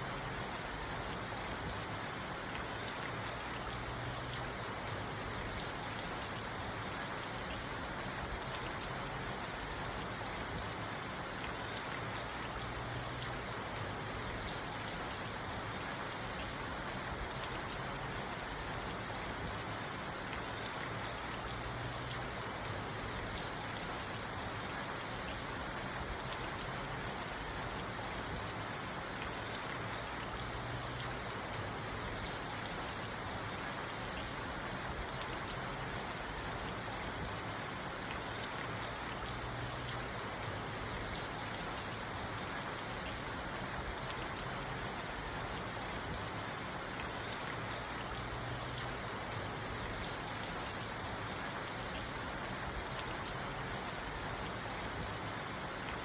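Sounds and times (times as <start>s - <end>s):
rain hissing on car: 0.0s - 56.0s.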